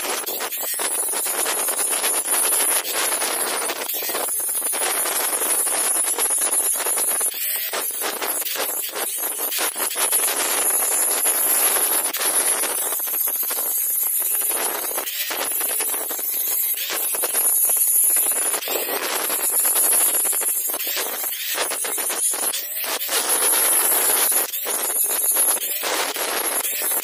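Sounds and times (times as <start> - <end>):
angle grinder grinding metal: 0.0 - 27.0.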